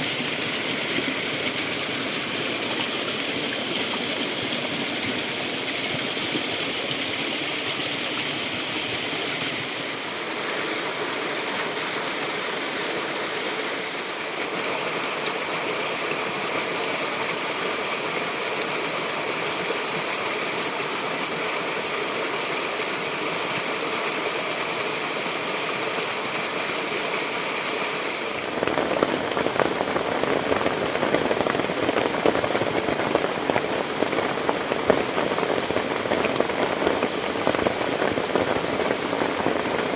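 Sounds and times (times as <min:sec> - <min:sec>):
fast-flowing stream: 0:00.0 - 0:39.9
rain: 0:00.0 - 0:39.9.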